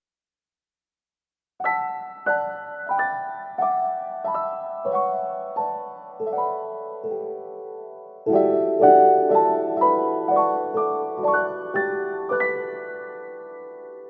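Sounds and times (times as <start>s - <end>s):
gentle piano music: 1.6s - 14.0s.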